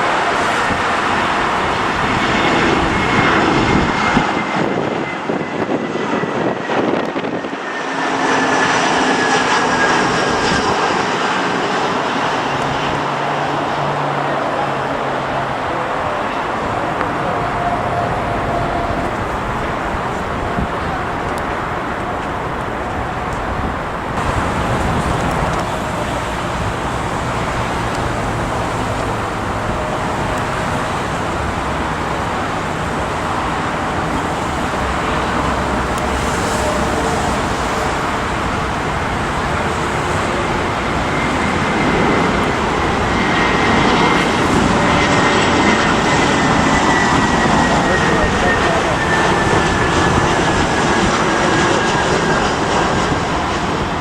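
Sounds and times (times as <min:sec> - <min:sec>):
high whine: 0:00.0 - 0:54.0
jet airliner engines: 0:00.0 - 0:54.0.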